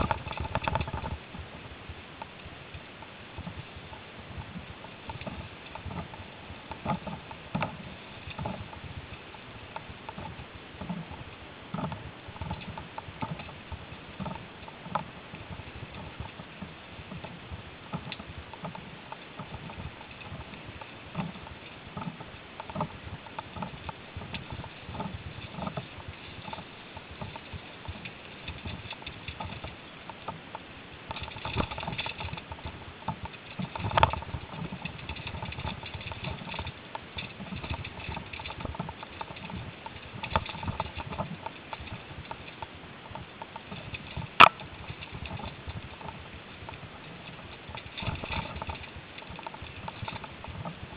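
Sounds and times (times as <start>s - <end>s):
bike rattling and knocking: 0.0s - 1.5s, 2.9s - 50.9s
bike tyres crunching on dirt: 0.0s - 50.9s.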